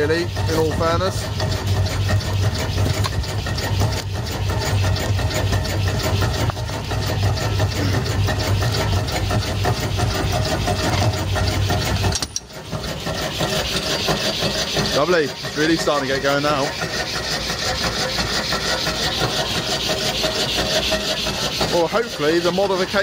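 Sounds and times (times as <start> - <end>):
engine generator hum: 0.0 - 23.0
logs scraping and rubbing: 0.0 - 23.0.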